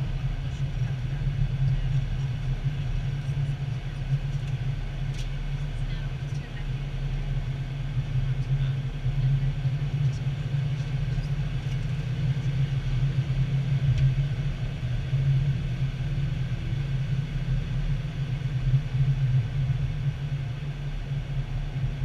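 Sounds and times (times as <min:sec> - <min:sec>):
airliner engines low rumble: 0:00.0 - 0:22.0.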